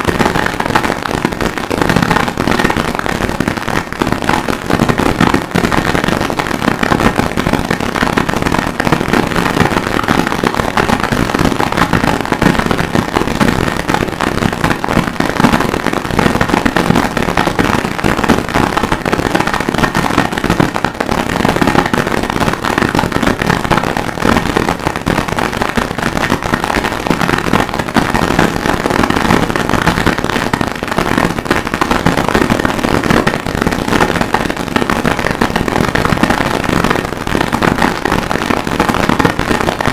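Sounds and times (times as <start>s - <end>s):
distorted crackling static noise music: 0.0s - 31.8s, 32.4s - 39.9s.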